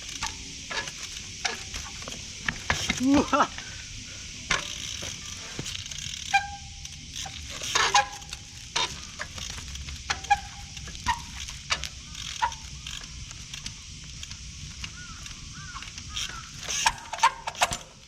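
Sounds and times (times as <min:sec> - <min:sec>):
bicycle hopping knocks: 0:00.0 - 0:18.0
brakes squealing: 0:00.0 - 0:18.0
rain hiss: 0:00.0 - 0:18.0.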